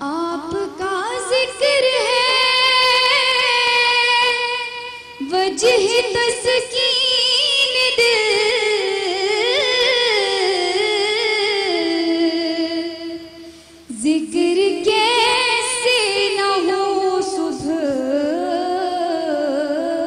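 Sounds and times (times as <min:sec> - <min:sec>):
girl singing into a microphone: 0:00.0 - 0:20.0.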